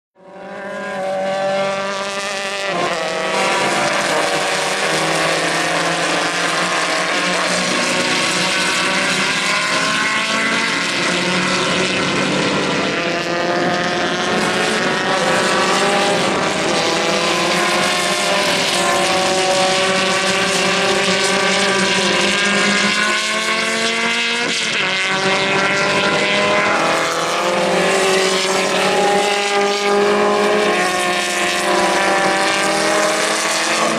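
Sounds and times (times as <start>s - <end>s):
race car engine revving: 0.2s - 33.9s.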